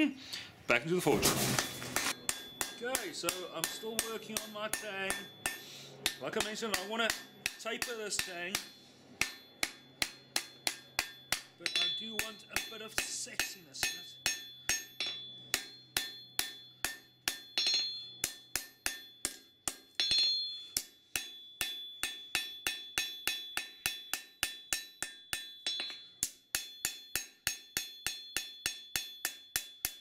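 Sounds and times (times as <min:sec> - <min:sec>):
hammer striking metal on anvil: 0:01.5 - 0:30.0.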